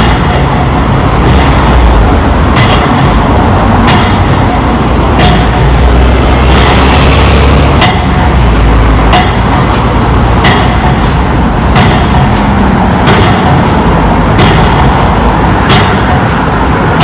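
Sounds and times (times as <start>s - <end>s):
pile driver hammer strikes: 0.0s - 17.0s
rig engine running: 0.0s - 17.0s.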